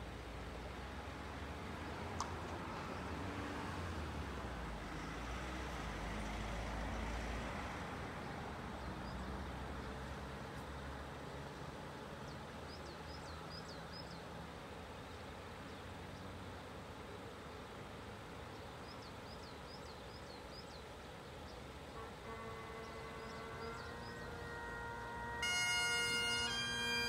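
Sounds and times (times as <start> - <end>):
slow car engines and tyres rumbling: 0.0 - 27.0.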